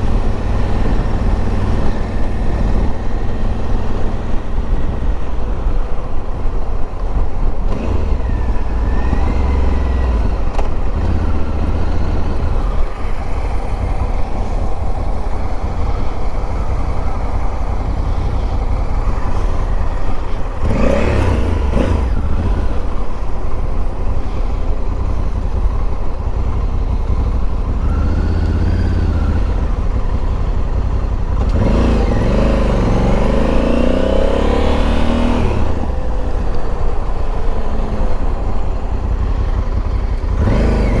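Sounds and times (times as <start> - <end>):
motorcycle engine revving: 0.0 - 5.5, 7.1 - 41.0.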